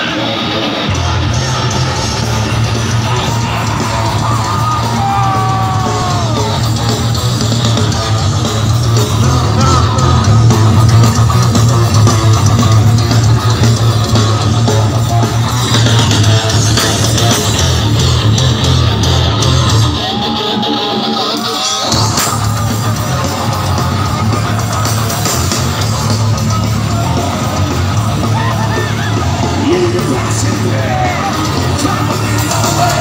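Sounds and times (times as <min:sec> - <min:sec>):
heavy metal band playing: 0:00.0 - 0:33.0.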